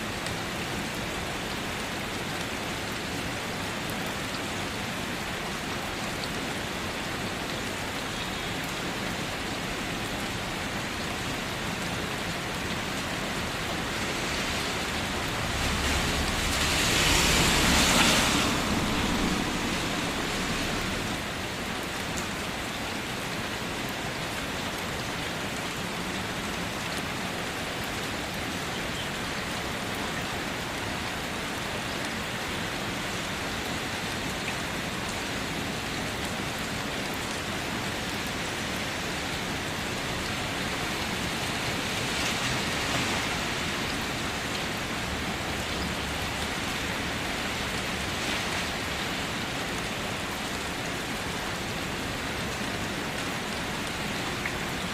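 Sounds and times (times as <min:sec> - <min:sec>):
rain on a car roof: 0:00.0 - 0:54.9.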